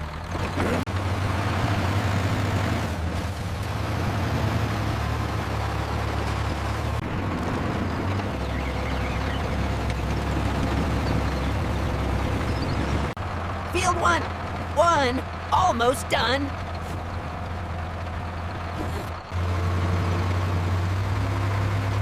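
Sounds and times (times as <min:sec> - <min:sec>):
farm machine engine drone: 0:00.0 - 0:22.0.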